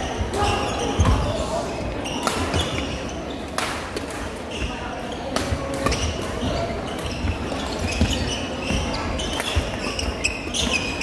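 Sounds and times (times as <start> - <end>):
shoes squeaking on floor: 0.0 - 3.5, 4.5 - 11.0
sports hall din: 0.0 - 11.0.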